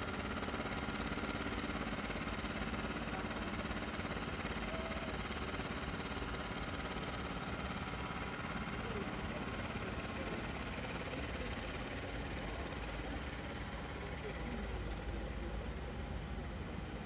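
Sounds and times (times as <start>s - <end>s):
machinery engine hum: 0.0s - 17.0s.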